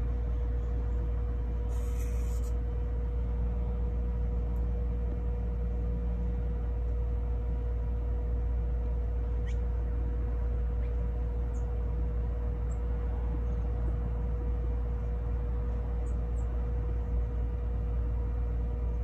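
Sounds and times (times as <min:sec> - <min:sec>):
low background rumble: 0:00.0 - 0:19.0
mid-pitched hum: 0:00.0 - 0:19.0.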